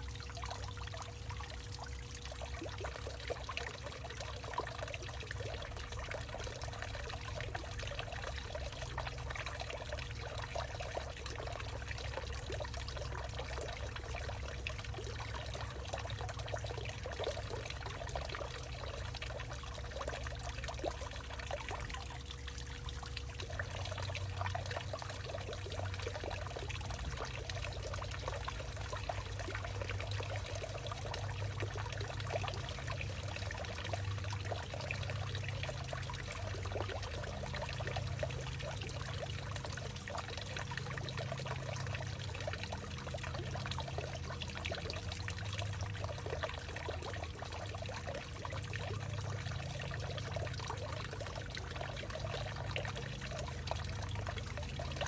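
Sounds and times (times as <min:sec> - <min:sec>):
water trickling through tree: 0:00.0 - 0:55.0.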